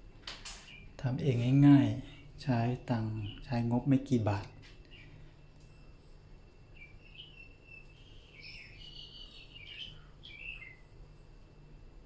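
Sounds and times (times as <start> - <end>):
faint birds chirping: 0.0 - 12.0
low steady hum: 0.0 - 12.0.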